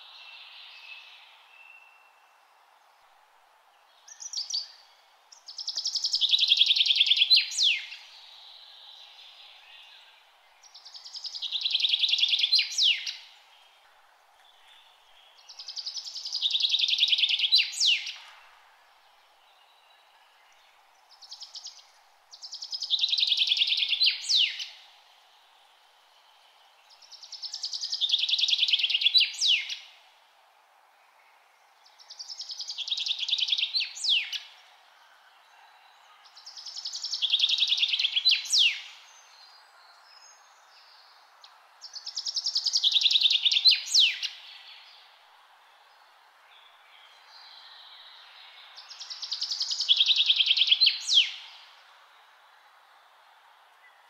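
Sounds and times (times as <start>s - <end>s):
faint steady hiss: 0.0s - 54.0s
songbird trilling song: 3.9s - 18.4s, 19.1s - 25.0s, 26.2s - 30.0s, 31.1s - 34.7s, 35.4s - 45.2s, 45.8s - 52.0s.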